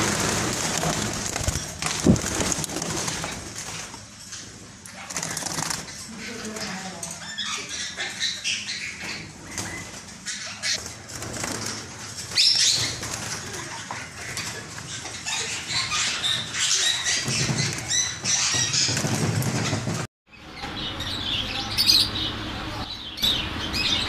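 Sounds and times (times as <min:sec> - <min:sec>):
parakeets flapping wings: 0:00.0 - 0:20.1.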